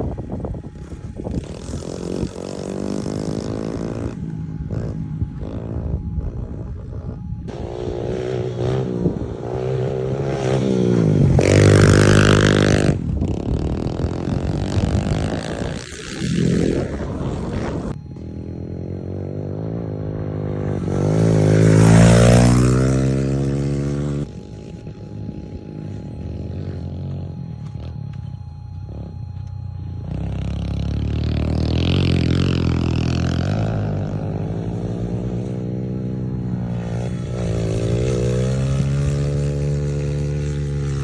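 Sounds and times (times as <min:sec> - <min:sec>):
off-road vehicle engine revving: 0:00.0 - 0:41.0.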